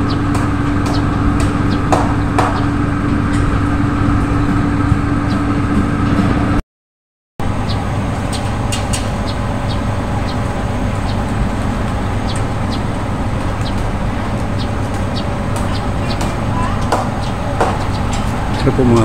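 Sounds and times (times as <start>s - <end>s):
low engine rumble: 0.0s - 6.6s, 7.4s - 19.0s.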